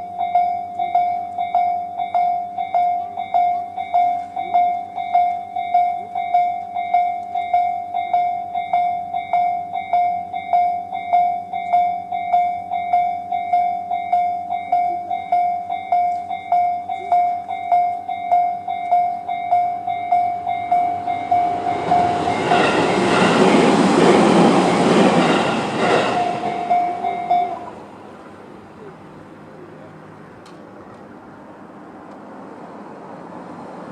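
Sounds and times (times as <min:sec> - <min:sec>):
level crossing alarm ringing: 0:00.0 - 0:28.8
electric train passing: 0:00.0 - 0:33.9.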